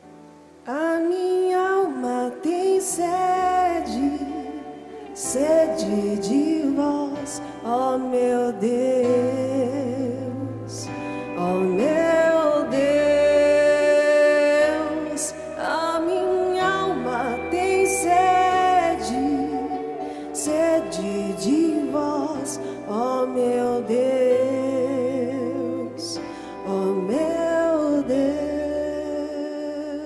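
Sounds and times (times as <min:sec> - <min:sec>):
solo voice singing a hymn: 0:00.4 - 0:30.0
instrumental accompaniment: 0:02.6 - 0:29.2.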